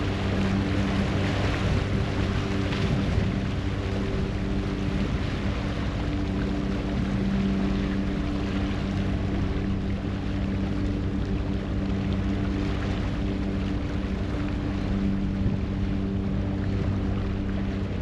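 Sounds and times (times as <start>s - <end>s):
churning wake water: 0.0s - 18.0s
ferry engine humming: 0.0s - 18.0s
wind: 0.0s - 18.0s.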